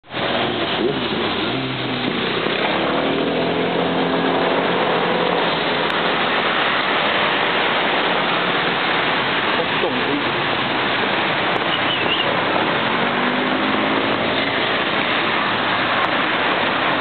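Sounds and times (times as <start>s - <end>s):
heavy traffic passing: 0.0s - 17.0s
car engines accelerating: 0.1s - 17.0s.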